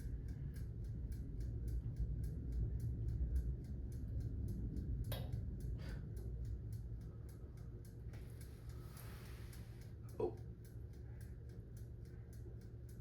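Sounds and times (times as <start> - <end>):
dial timer ticking: 0.0 - 13.0
steady low rumble: 0.0 - 13.0.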